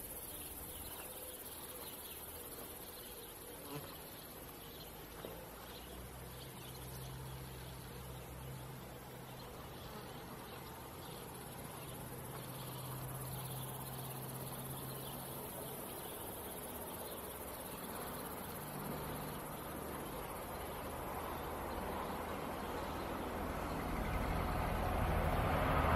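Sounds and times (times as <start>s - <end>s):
crickets chirring: 0.0s - 25.9s.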